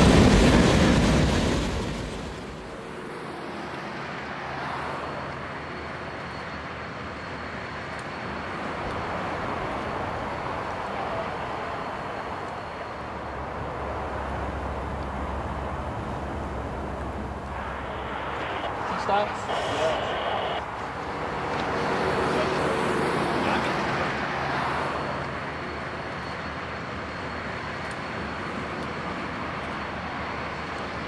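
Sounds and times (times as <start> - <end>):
outdoor background rumble and hiss: 0.0 - 31.0.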